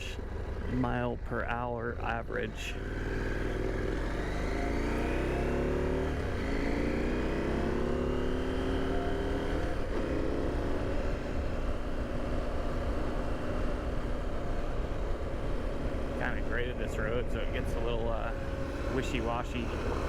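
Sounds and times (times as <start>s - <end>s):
motorcycle engine accelerating: 0.0s - 1.0s, 2.0s - 20.0s.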